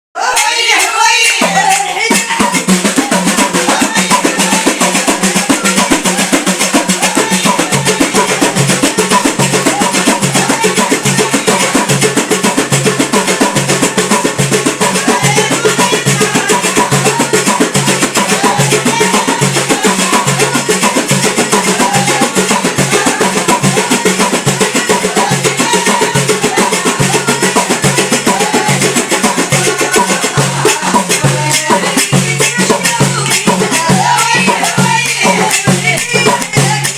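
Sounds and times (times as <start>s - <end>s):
fast steady drumming: 0.2s - 36.9s.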